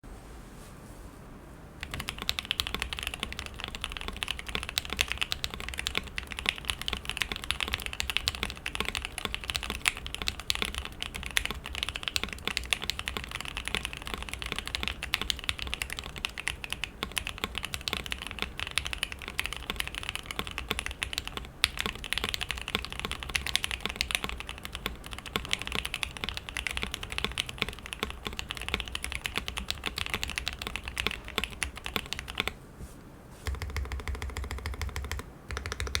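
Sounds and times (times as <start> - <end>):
mechanical keyboard typing: 1.8 - 32.6, 33.4 - 36.0.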